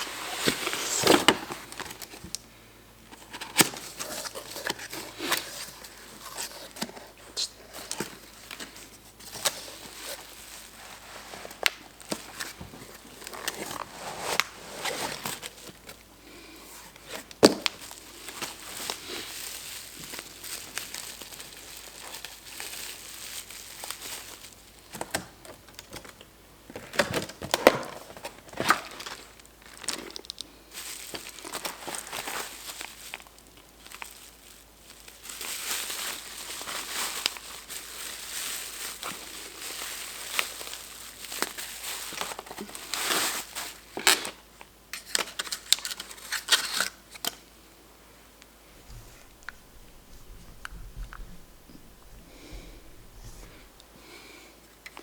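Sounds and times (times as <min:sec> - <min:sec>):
packaging crinkling and rustling: 0:00.0 - 0:02.4, 0:03.1 - 0:47.5, 0:48.7 - 0:54.1.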